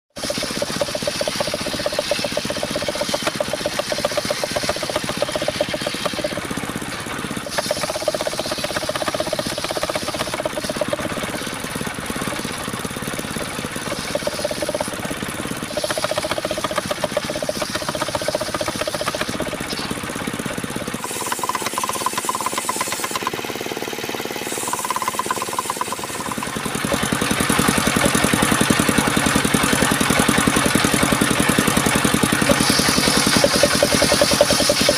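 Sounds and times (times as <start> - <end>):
engine-driven circular saw running: 0.1 - 34.9.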